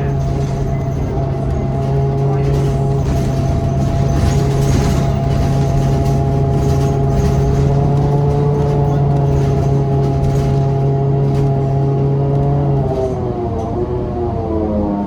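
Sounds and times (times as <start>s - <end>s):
bus engine drone: 0.0s - 15.0s
whining tones: 0.0s - 15.0s.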